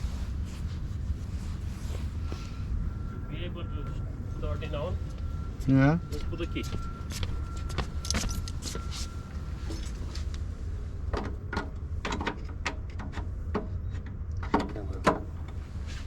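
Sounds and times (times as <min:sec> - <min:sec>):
steady low rumble: 0:00.0 - 0:12.1, 0:13.2 - 0:16.0.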